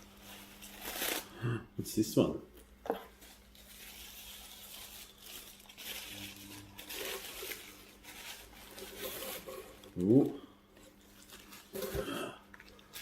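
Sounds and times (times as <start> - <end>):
gift wrapping crinkling and tearing: 0.0 - 1.5, 3.1 - 13.0.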